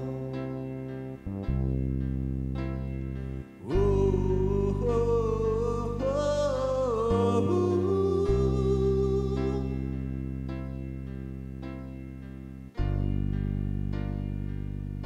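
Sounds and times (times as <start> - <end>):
slow background music: 0.0 - 15.0.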